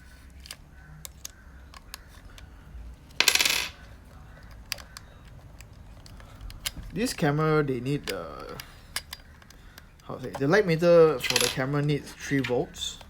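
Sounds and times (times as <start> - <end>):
small metal parts clicking: 0.0 - 13.0.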